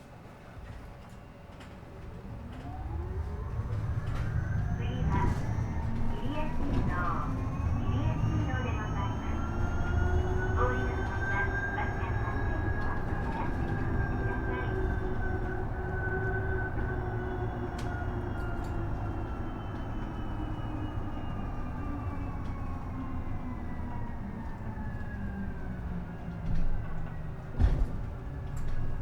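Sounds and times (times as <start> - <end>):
electric bus drive whine: 0.1 - 29.0
road rumble: 1.9 - 29.0.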